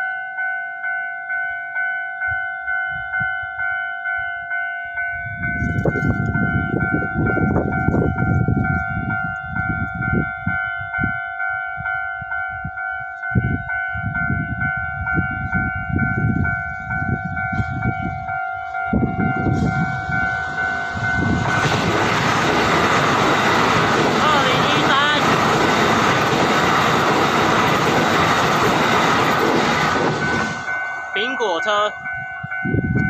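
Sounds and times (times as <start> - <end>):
electric train passing: 0.0 - 33.0
level crossing warning bell: 0.0 - 33.0.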